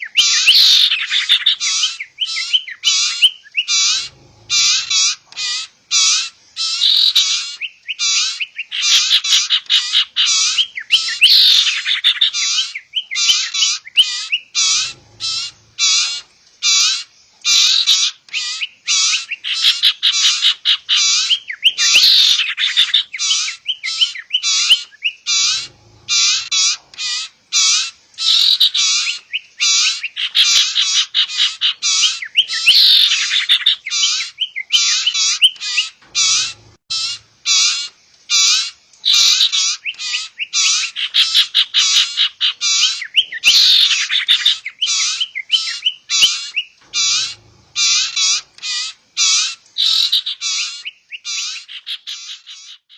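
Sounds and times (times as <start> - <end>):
birds chirping fast: 0.0 - 52.9
scratchy bird chattering: 0.0 - 52.9.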